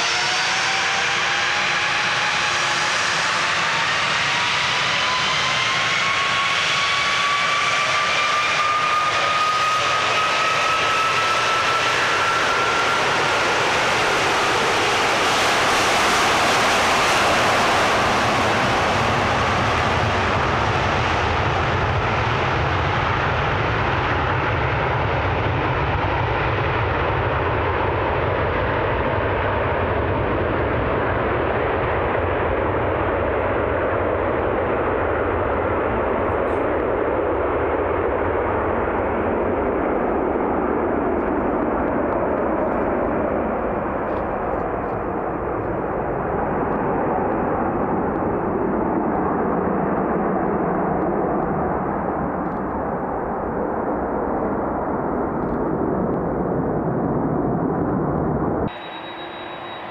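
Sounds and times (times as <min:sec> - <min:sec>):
jet airliner taking off: 0:00.0 - 0:59.9.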